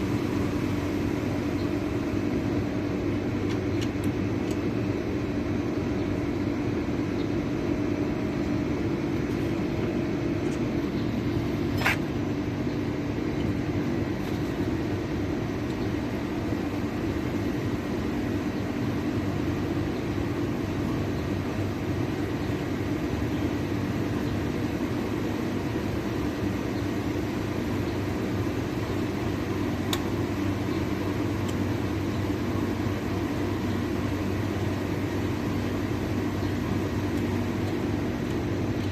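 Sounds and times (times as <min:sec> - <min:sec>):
mechanical hum with low drone: 0:00.0 - 0:38.9.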